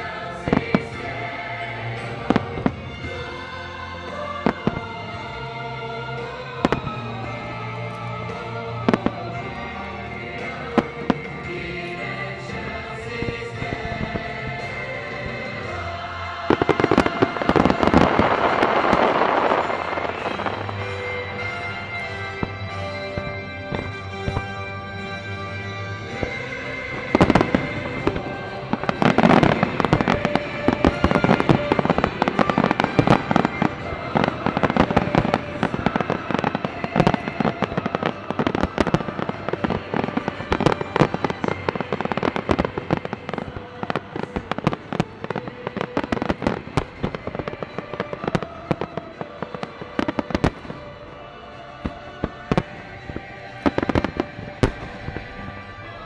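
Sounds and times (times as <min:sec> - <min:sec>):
fireworks bursts and crackling: 0:00.0 - 0:56.0
music with steady tones: 0:00.0 - 0:56.0.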